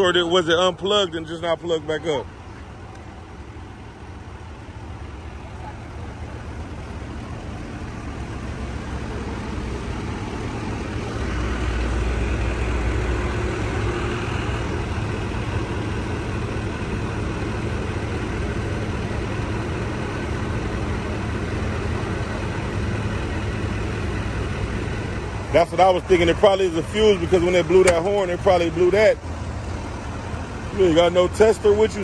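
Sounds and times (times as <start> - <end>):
vehicle engine idling: 0.0 - 32.0.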